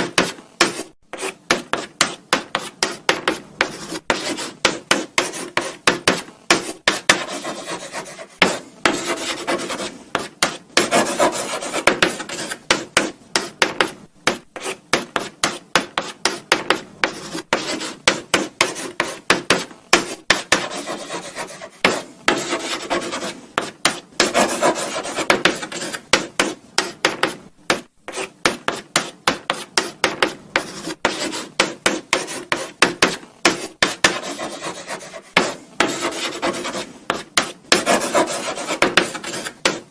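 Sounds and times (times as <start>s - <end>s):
chalk scratching on blackboard: 0.0s - 39.9s.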